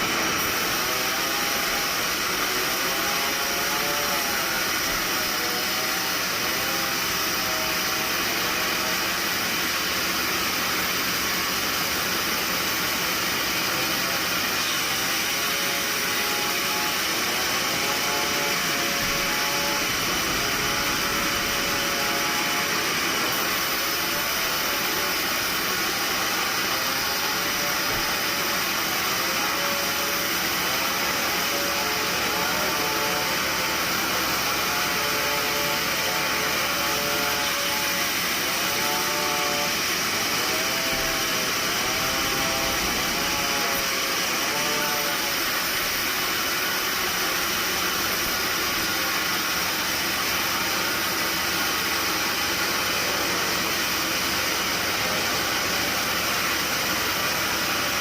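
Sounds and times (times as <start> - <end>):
steady machine noise: 0.0 - 58.0.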